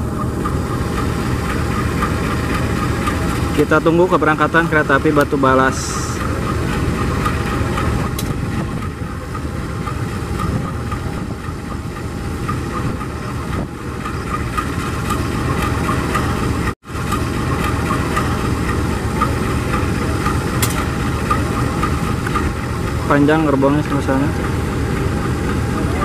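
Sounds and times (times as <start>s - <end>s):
locomotive engines idling: 0.0s - 26.0s.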